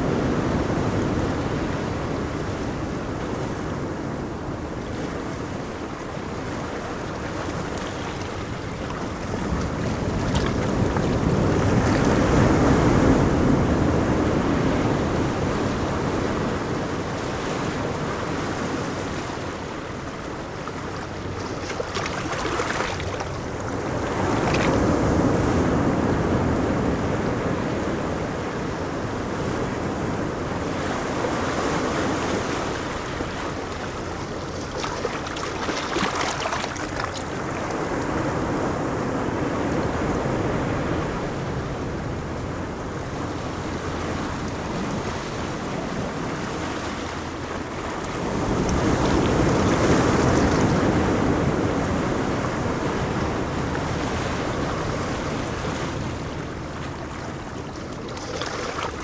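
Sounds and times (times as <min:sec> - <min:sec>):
ocean waves breaking on beach: 0:00.0 - 0:59.0
wind on microphone: 0:00.0 - 0:59.0.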